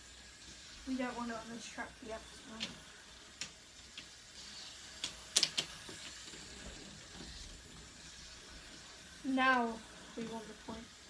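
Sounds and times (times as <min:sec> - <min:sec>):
faint steady whirr: 0:00.0 - 0:11.0
plastic toy train clicks and clatters: 0:00.0 - 0:11.0.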